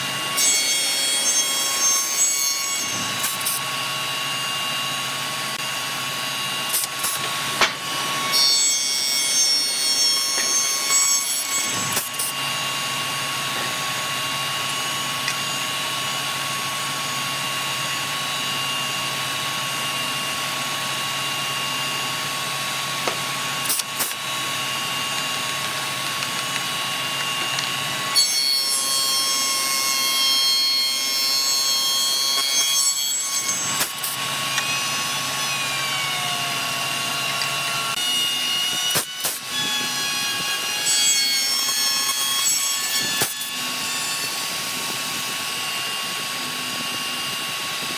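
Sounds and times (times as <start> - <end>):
cutter cutting wood: 0.0 - 47.9
spindle shaper whine: 0.0 - 47.9.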